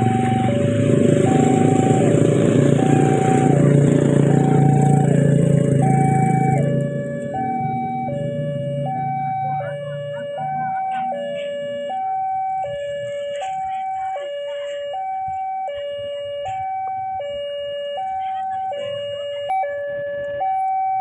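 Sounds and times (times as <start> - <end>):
two-tone level-crossing alarm: 0.0 - 21.0.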